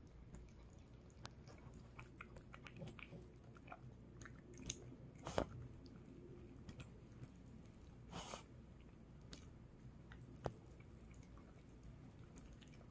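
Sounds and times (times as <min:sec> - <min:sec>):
dog chewing wetly: 0:00.0 - 0:12.9.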